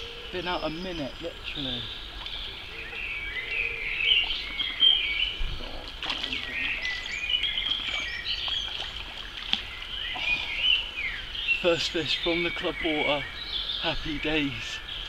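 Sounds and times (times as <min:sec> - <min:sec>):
songbirds chirping and warbling: 0:00.0 - 0:15.0.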